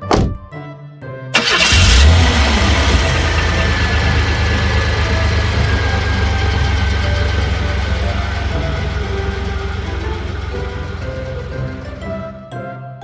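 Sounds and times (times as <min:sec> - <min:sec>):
car engine starting and idling: 0:01.4 - 0:12.2.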